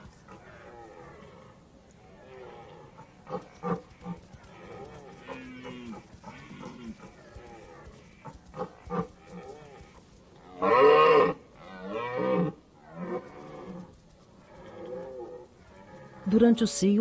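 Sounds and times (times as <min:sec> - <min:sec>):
deer stag roaring: 0:00.0 - 0:16.3.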